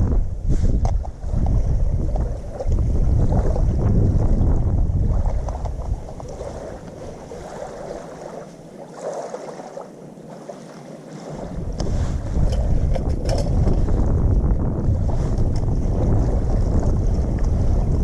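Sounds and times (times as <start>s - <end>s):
wind buffeting microphone: 0.0s - 8.6s, 10.6s - 18.0s.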